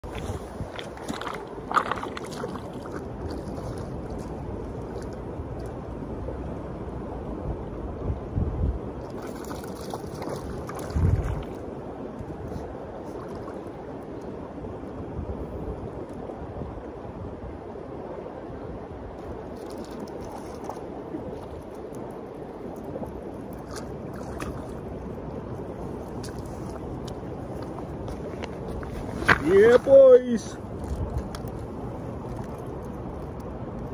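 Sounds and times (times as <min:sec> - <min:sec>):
river water running over stones: 0:00.0 - 0:07.4, 0:08.9 - 0:15.2, 0:17.9 - 0:33.9.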